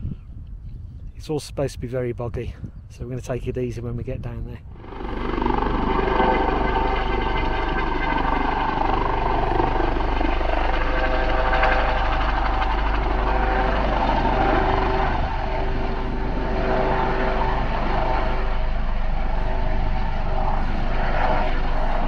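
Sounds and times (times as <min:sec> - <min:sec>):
helicopter flying: 0:04.1 - 0:22.0.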